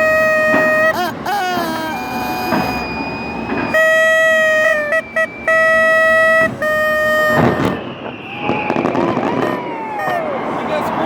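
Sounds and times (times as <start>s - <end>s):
horn honking: 0.0s - 1.3s, 2.1s - 8.4s, 9.0s - 11.0s.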